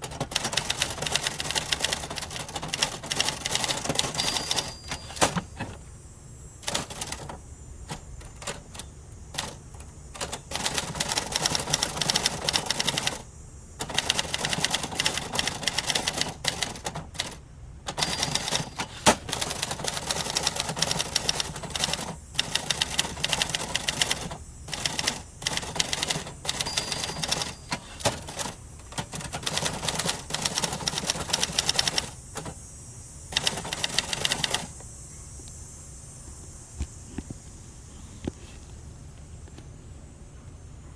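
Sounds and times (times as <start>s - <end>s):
manual typewriter typing: 0.0s - 5.8s, 6.6s - 32.6s, 33.3s - 34.7s.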